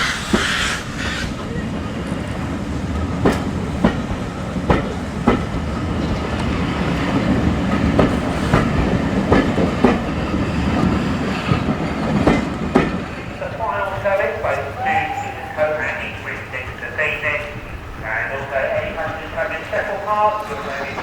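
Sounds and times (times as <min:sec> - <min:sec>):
train rumbling on rails: 0:00.0 - 0:21.0
wheels clicking over rail joints: 0:00.0 - 0:21.0.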